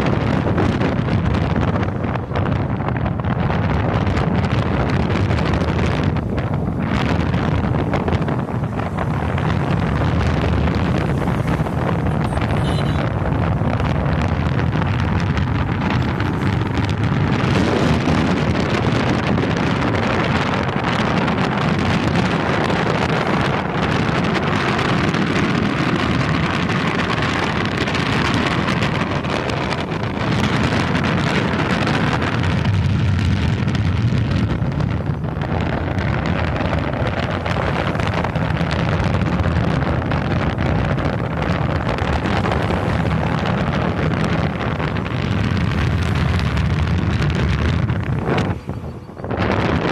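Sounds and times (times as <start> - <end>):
scooter road noise: 0.0 - 49.9
wind buffeting microphone: 0.0 - 49.9.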